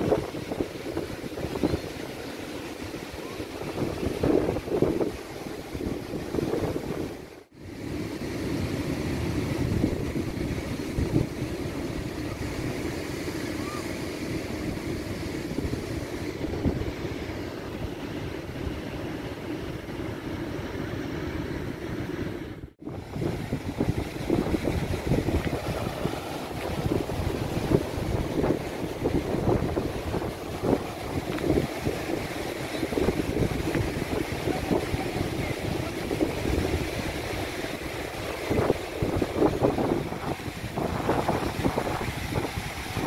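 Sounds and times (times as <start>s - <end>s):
surf washing onto beach: 0.0s - 43.0s
wind buffeting microphone: 0.0s - 43.0s.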